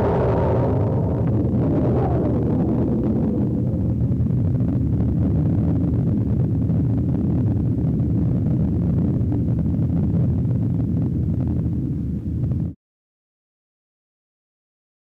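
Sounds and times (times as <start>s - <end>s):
dense low rumble: 0.0s - 12.8s.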